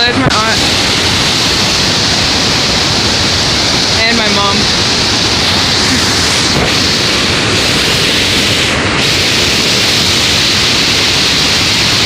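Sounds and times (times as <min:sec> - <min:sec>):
river rushing over waterfall: 0:00.0 - 0:12.0.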